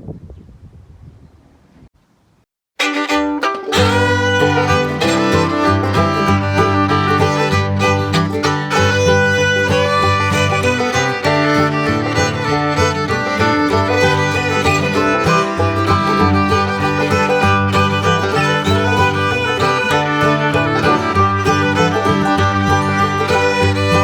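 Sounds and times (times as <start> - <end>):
lively fiddle tune: 2.8 - 24.0
plucked strings: 2.8 - 24.0.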